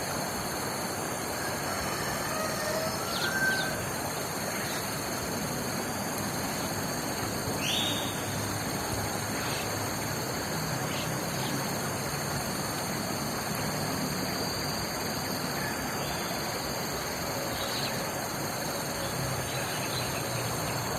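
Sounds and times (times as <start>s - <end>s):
rushing wind or flowing water: 0.0s - 20.9s.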